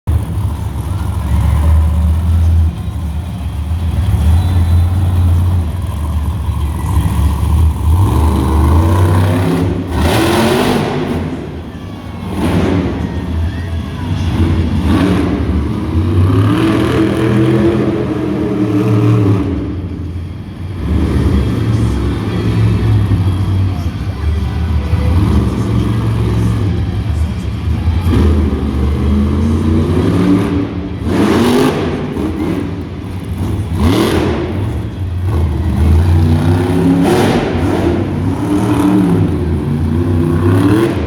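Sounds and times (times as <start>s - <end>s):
monster truck engine revving: 0.0s - 41.0s
loud rushes of noise: 0.2s - 41.0s.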